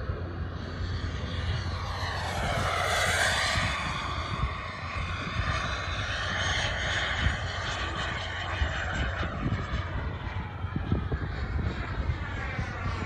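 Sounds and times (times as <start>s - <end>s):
model jet turbine rushing: 0.0s - 13.0s
wind rumbling on microphone: 0.0s - 13.0s.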